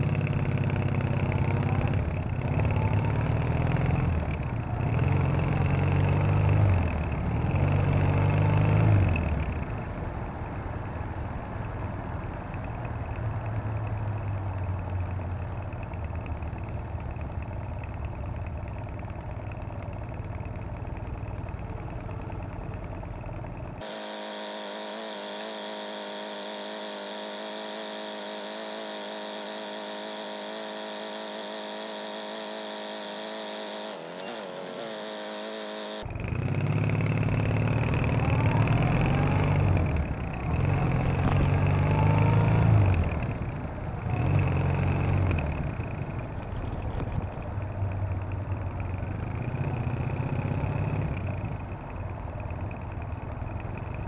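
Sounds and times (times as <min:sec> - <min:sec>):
motorcycle engine revving: 0:00.0 - 0:09.8, 0:19.5 - 0:54.0.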